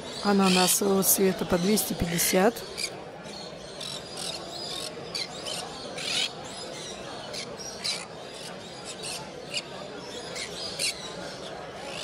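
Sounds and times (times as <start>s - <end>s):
low background murmur: 0.0s - 12.0s.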